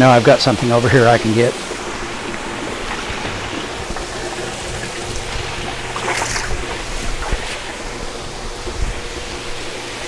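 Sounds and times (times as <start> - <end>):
low pump hum: 0.0 - 10.0
rushing water: 0.0 - 10.0.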